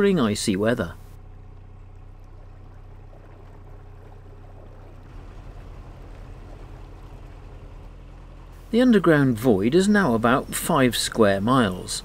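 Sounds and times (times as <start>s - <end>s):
boat engine humming: 0.0s - 12.0s
water moving past hull: 0.8s - 12.0s.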